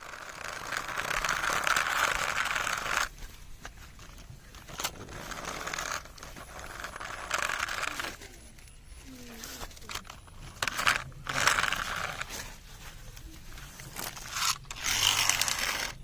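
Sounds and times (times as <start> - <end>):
crackly rustling or scraping: 0.0 - 16.0.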